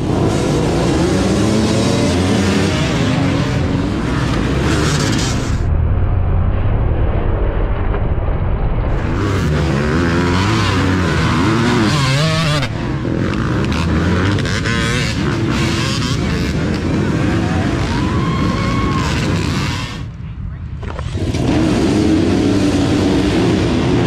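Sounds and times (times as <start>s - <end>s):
dirt bike engines revving: 0.0s - 5.7s, 8.9s - 24.0s.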